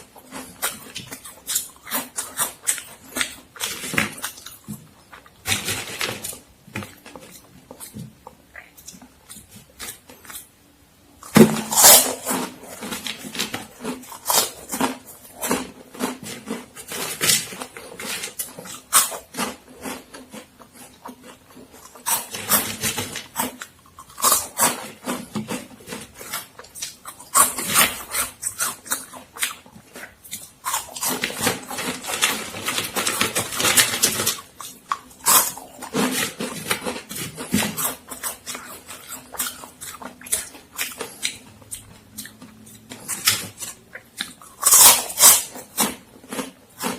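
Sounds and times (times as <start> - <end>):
crunching of crisp snacks: 0.0 - 46.9.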